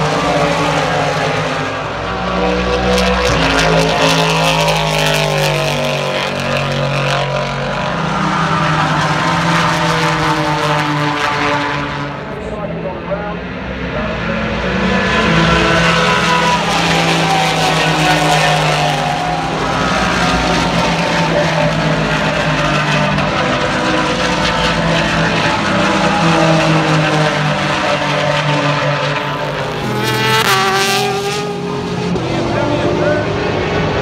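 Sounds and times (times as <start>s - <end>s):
race car accelerating hard: 0.0s - 34.0s
race cars passing at speed: 0.0s - 34.0s.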